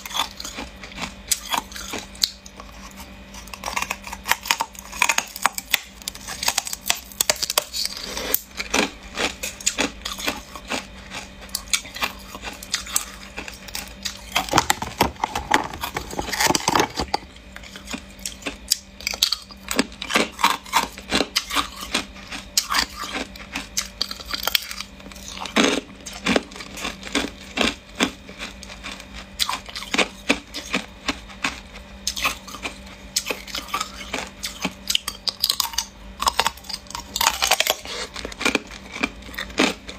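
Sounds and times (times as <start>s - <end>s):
faint steady hum: 0.0s - 39.9s
ice crunching being chewed: 0.0s - 39.9s.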